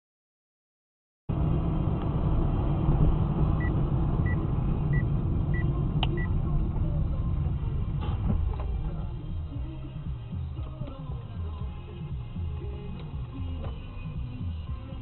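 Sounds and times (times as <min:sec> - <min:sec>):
car engine and road noise: 0:01.3 - 0:15.0.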